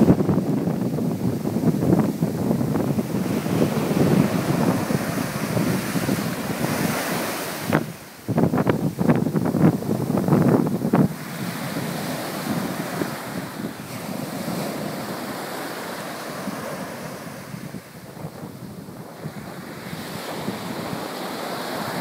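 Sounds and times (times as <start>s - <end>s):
surf breaking on sandy beach: 0.0s - 22.0s
wind buffeting microphone: 0.0s - 22.0s.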